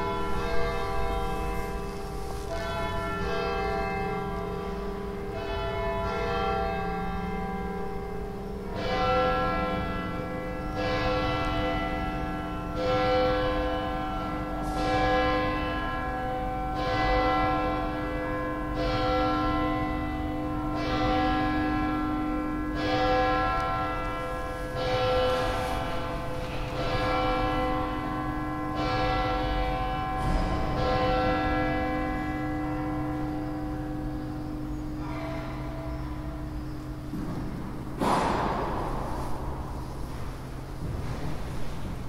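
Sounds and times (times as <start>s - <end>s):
church bell tolling: 0.0s - 41.0s.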